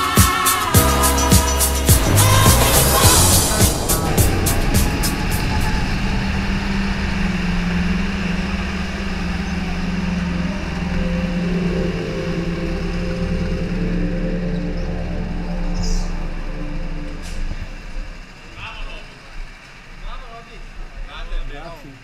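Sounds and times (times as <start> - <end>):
go-kart engine humming: 0.0 - 22.0.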